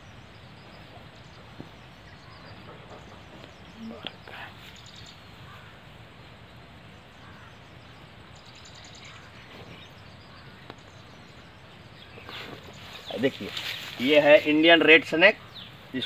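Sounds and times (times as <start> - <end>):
faint bird chirps: 0.0 - 14.6
outdoor background noise: 0.0 - 16.0.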